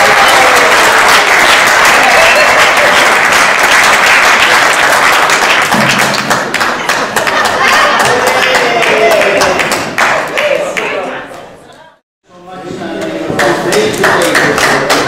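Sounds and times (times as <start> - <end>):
people applauding: 0.0 - 11.2, 13.4 - 15.0.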